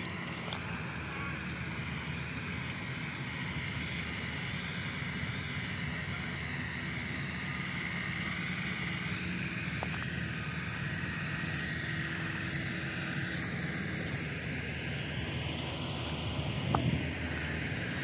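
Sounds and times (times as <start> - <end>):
threshing machine engine drone: 0.0 - 18.0.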